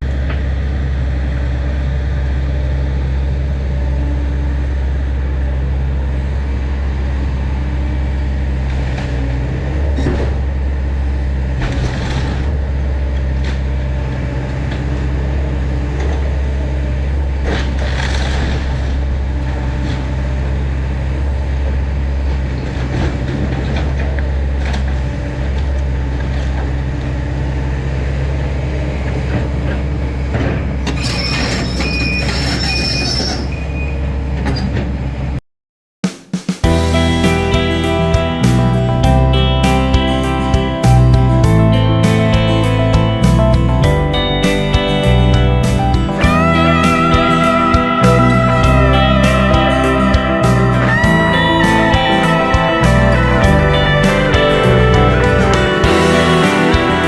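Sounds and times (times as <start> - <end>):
excavator diesel engine running: 0.0 - 30.8, 36.6 - 57.0.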